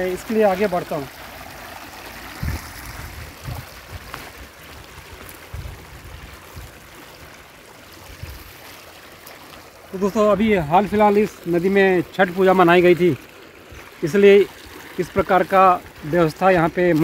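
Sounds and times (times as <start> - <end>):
river water flowing over stones: 0.0 - 17.0.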